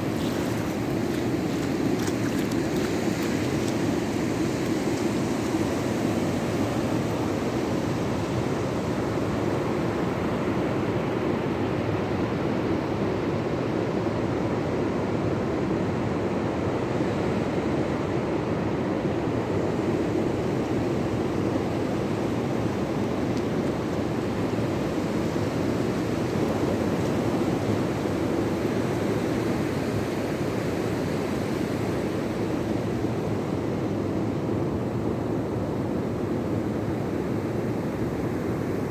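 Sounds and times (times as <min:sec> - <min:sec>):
waves breaking on shore: 0:00.0 - 0:13.2, 0:19.4 - 0:38.9.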